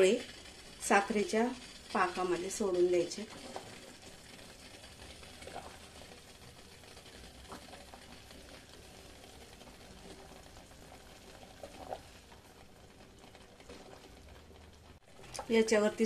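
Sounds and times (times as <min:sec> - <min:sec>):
syrup bubbling in a pot: 0:00.0 - 0:16.0.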